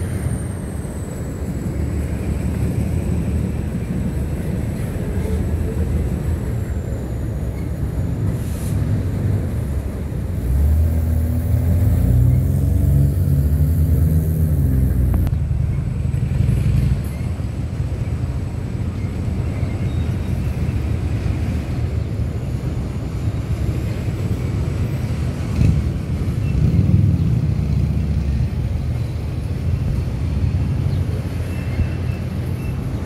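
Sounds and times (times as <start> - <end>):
freight train rumbling over bridge: 0.0 - 33.0
road vehicle engine: 0.0 - 33.0.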